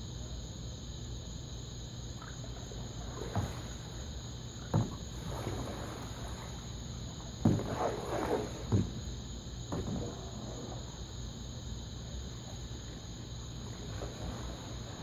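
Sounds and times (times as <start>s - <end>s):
paddle splashing in water: 2.2s - 15.0s.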